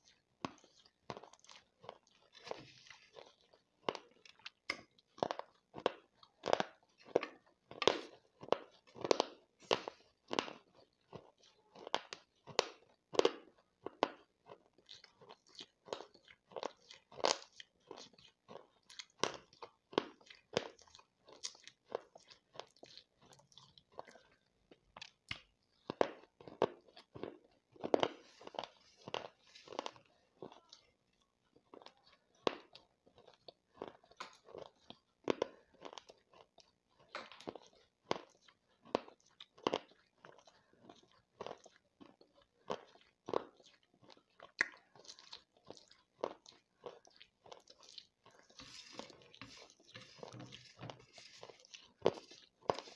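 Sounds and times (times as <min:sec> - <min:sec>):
gritty crunching in the mouth: 0:00.0 - 0:30.6, 0:31.5 - 0:52.9.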